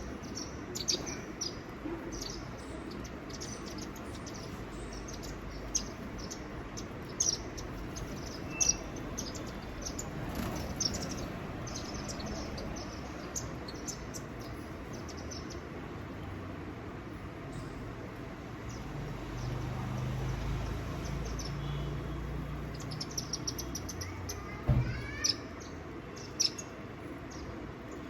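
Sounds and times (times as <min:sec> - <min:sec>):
small birds chirping: 0:00.0 - 0:28.0
steady low background noise: 0:00.0 - 0:28.0.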